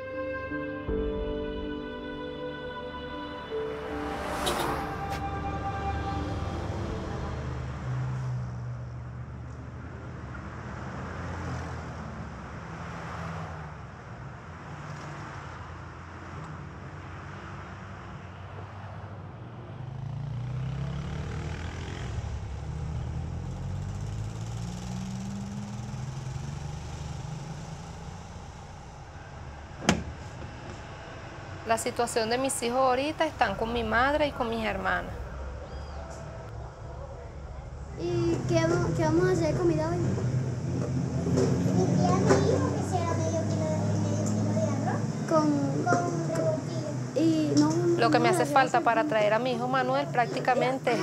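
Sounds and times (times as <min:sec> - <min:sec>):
street traffic engines: 0:00.0 - 0:51.0
vehicle accelerating: 0:00.0 - 0:51.0.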